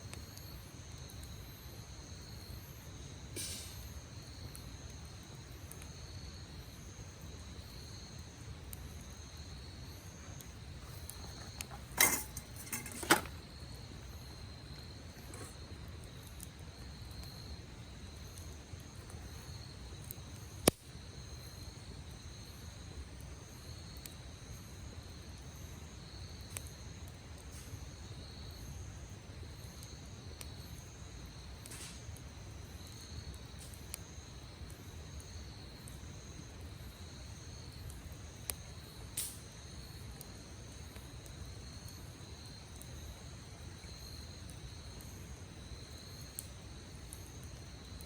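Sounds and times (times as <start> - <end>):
campfire pops and crackles: 0.0 - 48.0
insects chirping: 0.0 - 48.0.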